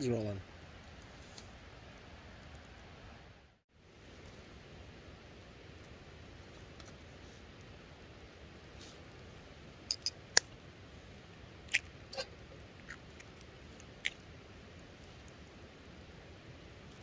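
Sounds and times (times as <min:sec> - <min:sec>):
campfire coals popping: 0:00.0 - 0:02.9, 0:03.9 - 0:17.0
steady low hiss: 0:00.0 - 0:17.0.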